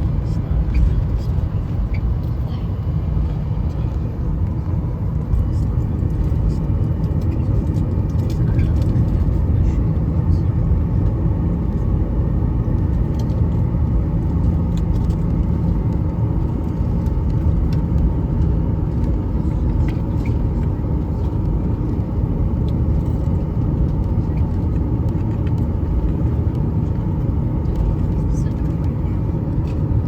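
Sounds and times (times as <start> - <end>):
airplane engines rumbling in cabin: 0.0 - 30.0.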